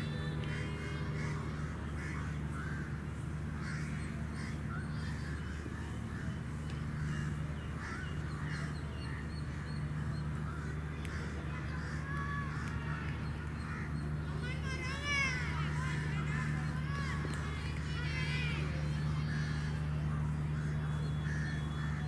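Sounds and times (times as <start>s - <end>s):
birds calling: 0.0s - 22.0s
steady low hum: 0.0s - 22.0s.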